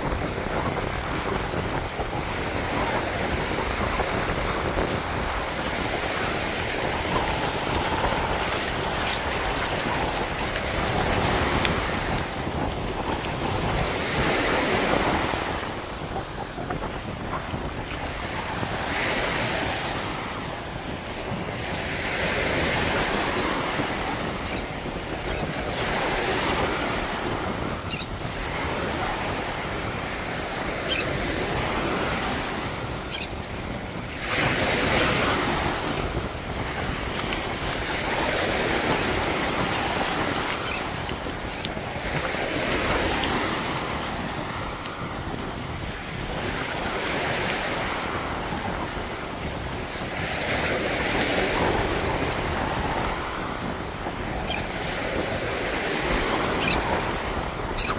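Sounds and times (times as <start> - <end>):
surf breaking on beach: 0.0 - 57.9.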